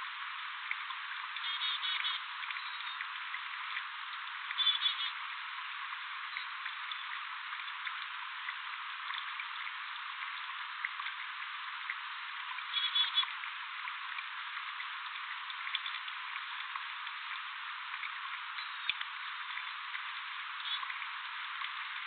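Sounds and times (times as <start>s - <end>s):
steady crackling hiss: 0.0s - 22.0s
faint ticks: 0.1s - 22.0s.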